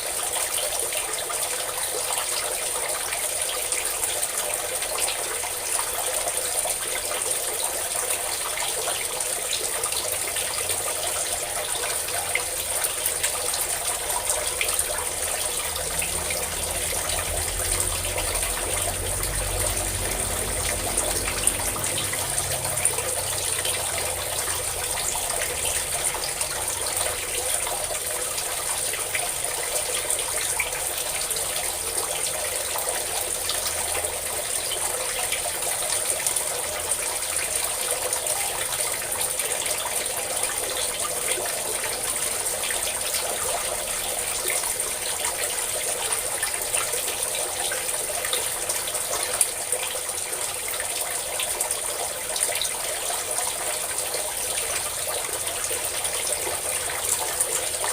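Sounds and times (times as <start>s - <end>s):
water pouring and splashing: 0.0s - 57.9s.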